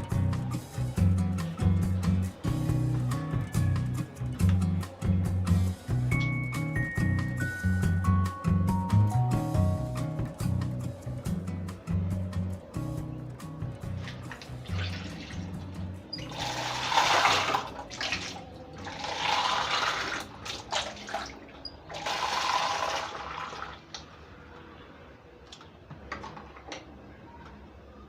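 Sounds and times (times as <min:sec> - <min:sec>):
soft background music: 0:00.0 - 0:28.0.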